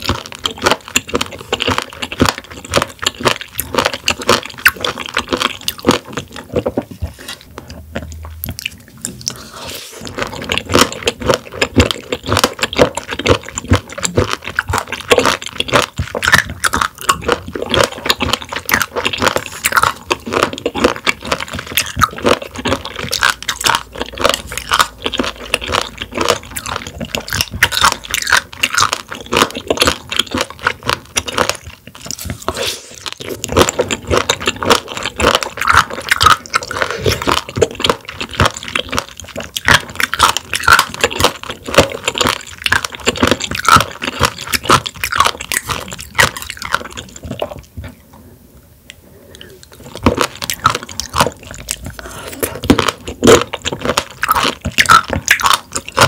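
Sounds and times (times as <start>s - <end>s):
wet crunchy chewing: 0.0s - 48.2s, 48.9s - 56.0s.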